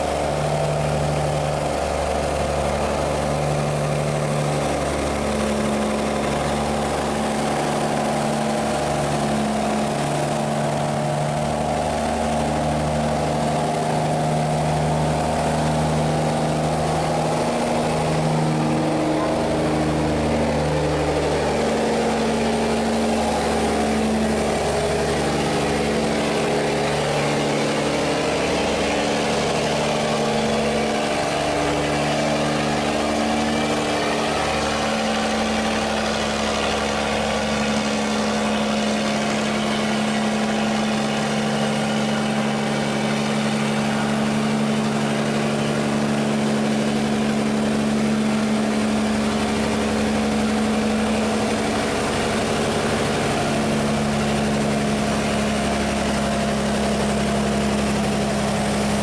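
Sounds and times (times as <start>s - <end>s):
diesel engine humming: 0.0s - 59.0s
water rushing and churning: 0.0s - 59.0s.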